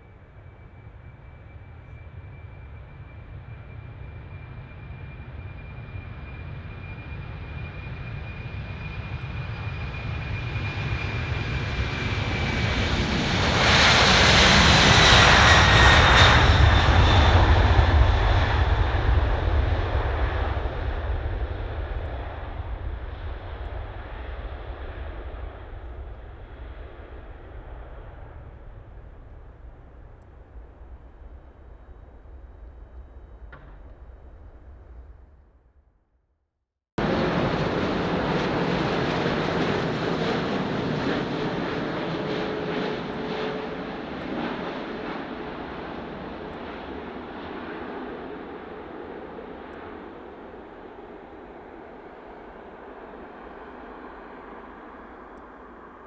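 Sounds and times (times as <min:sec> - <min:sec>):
jet engines passing: 0:00.0 - 0:35.3, 0:37.0 - 0:56.0.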